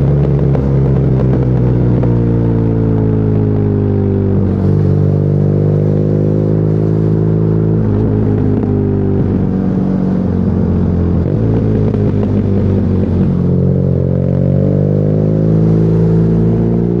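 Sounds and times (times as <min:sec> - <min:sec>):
motorcycle engine riding: 0:00.0 - 0:17.0.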